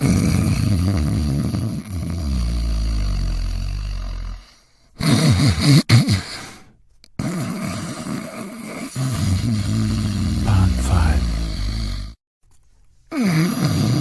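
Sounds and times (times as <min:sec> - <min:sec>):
person snoring: 0:00.0 - 0:12.2.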